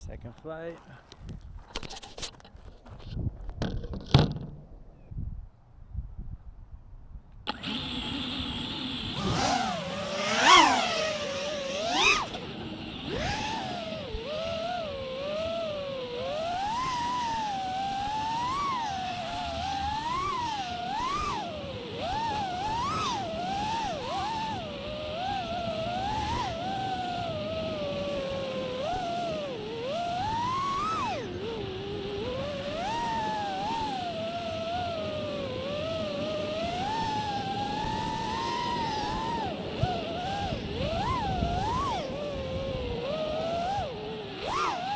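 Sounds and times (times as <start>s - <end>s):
drone motors whining: 7.4s - 44.9s.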